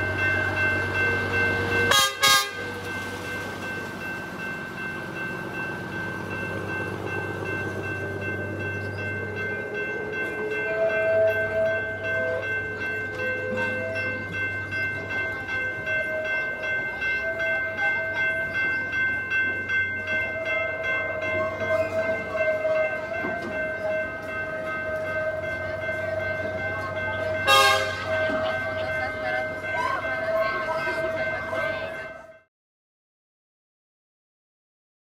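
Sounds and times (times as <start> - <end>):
train coaches rolling on steel wheels: 0.0 - 32.4.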